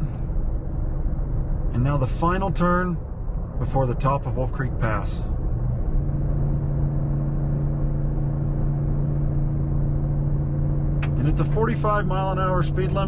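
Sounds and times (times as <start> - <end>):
pickup engine drone under load: 0.0 - 13.0
road noise: 0.0 - 13.0.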